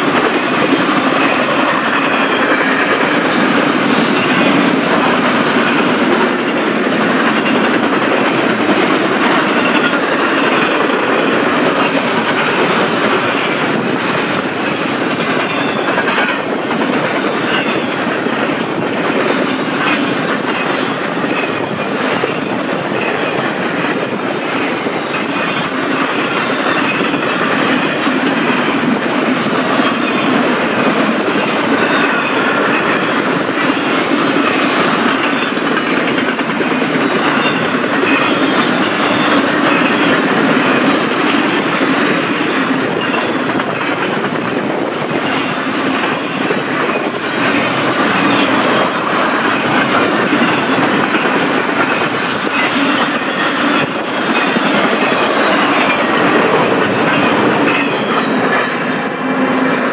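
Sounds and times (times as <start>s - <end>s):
train wheels rumbling on rail: 0.0s - 59.9s
wheels clacking over rail joints: 0.0s - 59.9s.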